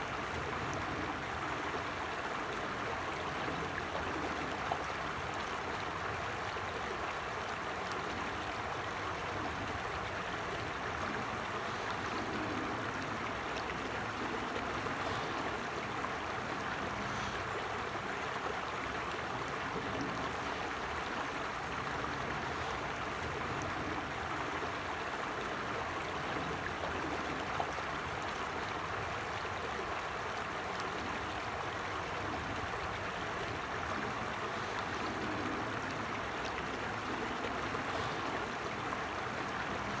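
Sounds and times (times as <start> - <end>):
stream babbling: 0.0 - 40.0.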